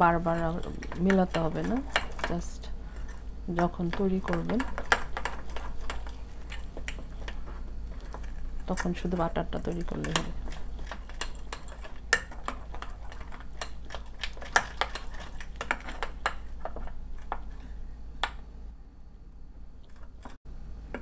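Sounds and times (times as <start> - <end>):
metal spoon beating batter in dish: 0.0 - 2.7, 3.5 - 18.4.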